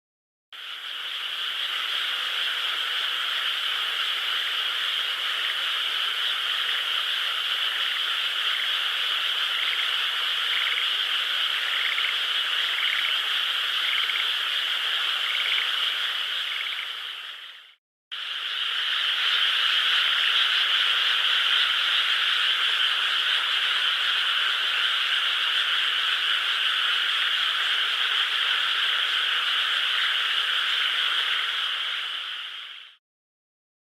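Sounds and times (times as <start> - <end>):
chorus of frogs calling: 0.6 - 32.8.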